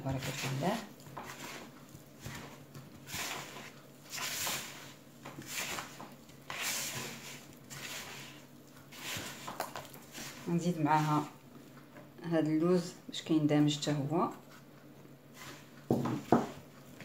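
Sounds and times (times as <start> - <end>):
hand squishing butter in a bowl: 0.0 - 12.0, 13.9 - 17.0.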